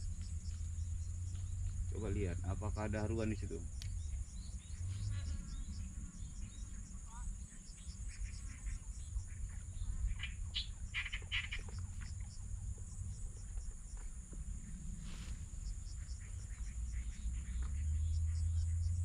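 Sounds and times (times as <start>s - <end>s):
insects trilling drone: 0.0s - 19.0s.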